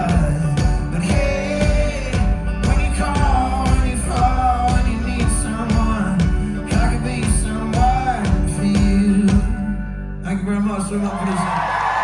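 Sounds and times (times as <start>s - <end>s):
live folk-rock band playing: 0.0s - 10.6s.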